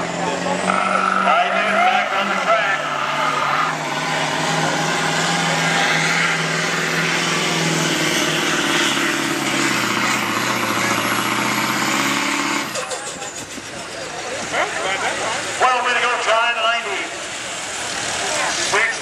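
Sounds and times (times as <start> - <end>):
diesel engine at full throttle: 0.0 - 19.0.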